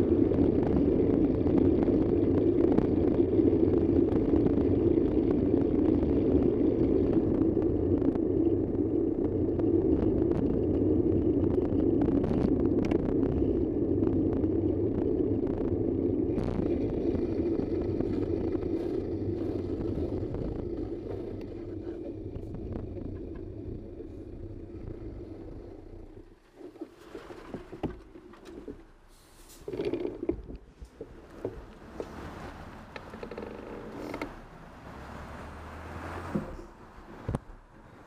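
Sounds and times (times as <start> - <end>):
vehicle road and engine rumble: 0.0 - 38.0.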